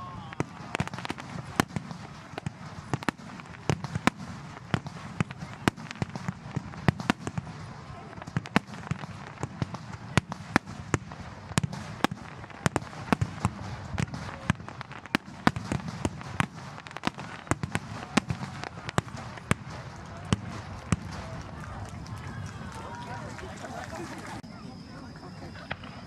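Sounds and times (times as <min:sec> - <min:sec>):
fireworks cracking and popping: 0:00.0 - 0:24.4.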